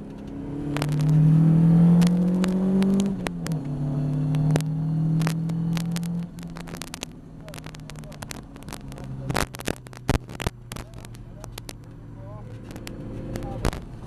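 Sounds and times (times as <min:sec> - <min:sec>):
race car engine accelerating: 0:00.0 - 0:14.0
sharp clicks: 0:02.0 - 0:14.0.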